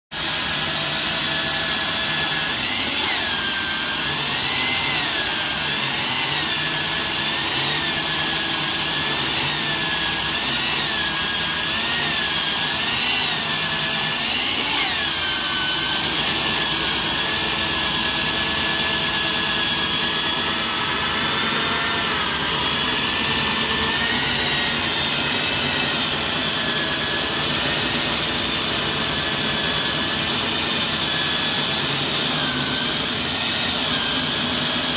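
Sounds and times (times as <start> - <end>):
core drill motor whine: 0.2 - 34.9.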